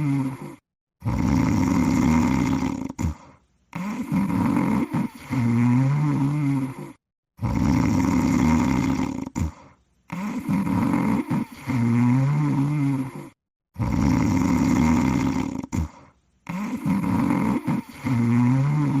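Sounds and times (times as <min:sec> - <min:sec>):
rattling snoring: 0:00.0 - 0:19.0.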